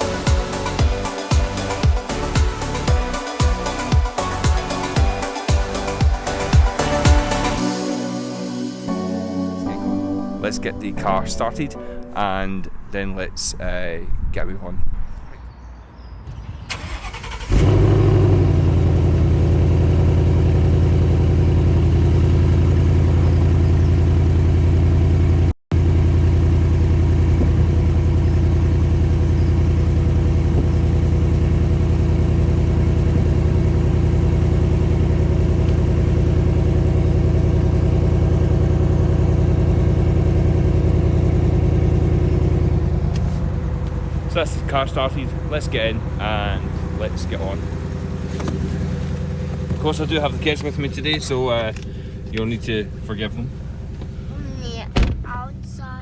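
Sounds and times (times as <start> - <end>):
car engine starting and idling: 0.0 - 7.7, 16.2 - 56.0.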